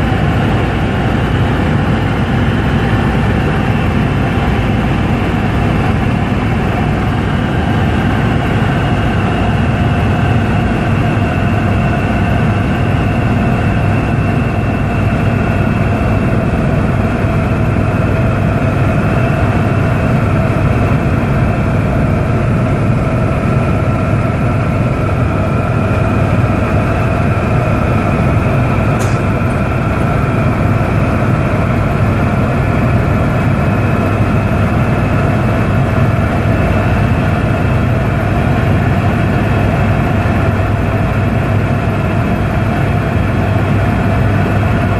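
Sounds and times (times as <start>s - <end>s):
helicopter engine and rotor noise: 0.0s - 44.9s.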